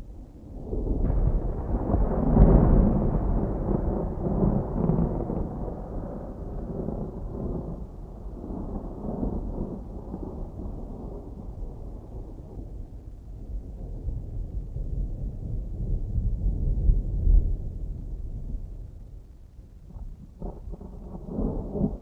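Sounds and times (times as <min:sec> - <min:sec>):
distant thunder rumbling: 0:00.1 - 0:22.0.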